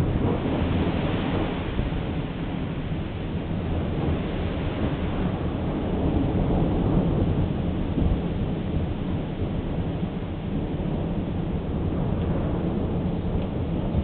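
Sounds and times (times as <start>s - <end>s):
distant thunder rumbling: 0.0s - 14.0s.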